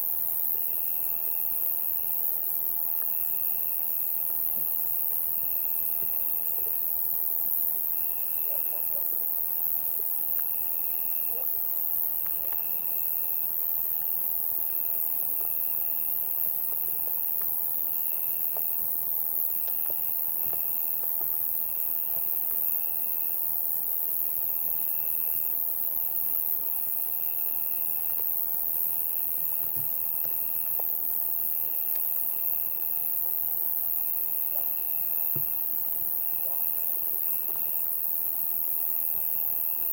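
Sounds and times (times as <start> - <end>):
insect chirping trill: 0.0 - 39.9.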